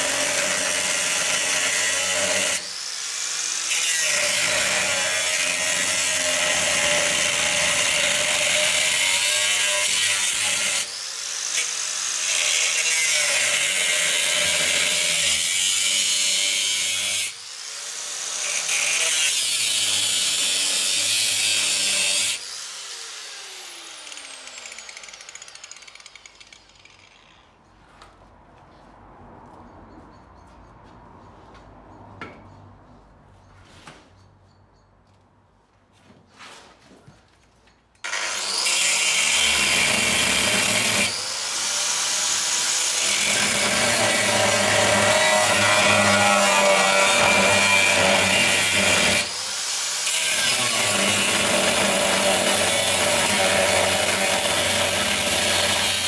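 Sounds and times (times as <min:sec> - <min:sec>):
angle grinder cutting steel: 0:00.0 - 0:27.6, 0:38.0 - 0:56.0.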